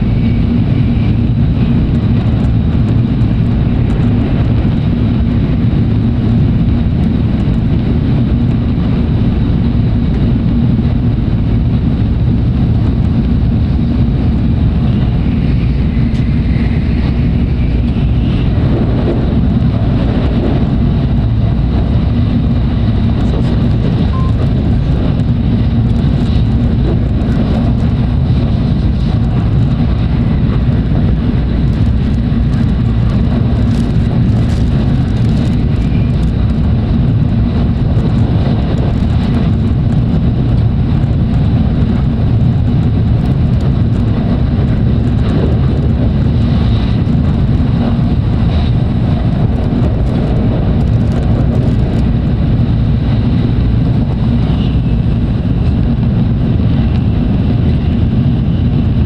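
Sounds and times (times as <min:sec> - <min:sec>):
train cabin rumble: 0:00.0 - 0:59.0.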